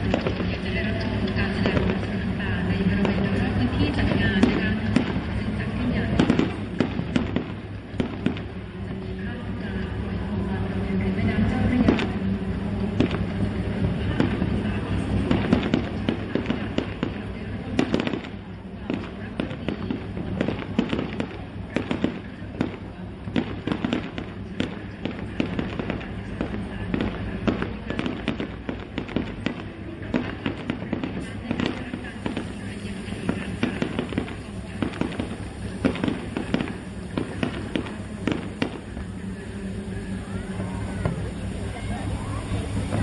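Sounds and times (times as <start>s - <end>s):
firework shells bursting: 0.0s - 8.7s, 12.9s - 39.6s
low background rumble: 0.0s - 43.0s.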